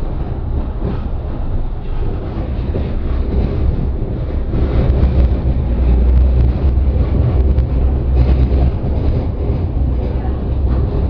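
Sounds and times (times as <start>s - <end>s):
tram rumbling on track: 0.0s - 11.0s
wind buffeting microphone: 0.0s - 11.0s.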